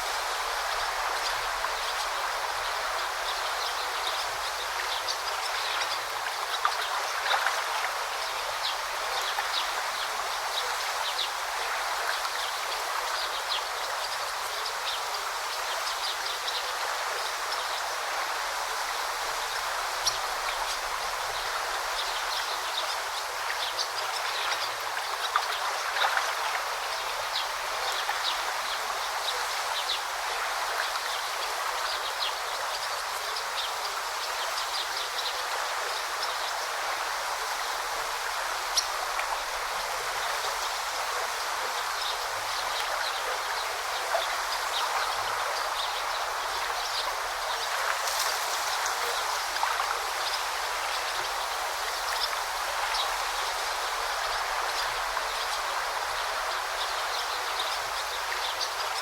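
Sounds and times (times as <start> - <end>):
brook flowing over stones: 0.0 - 59.0.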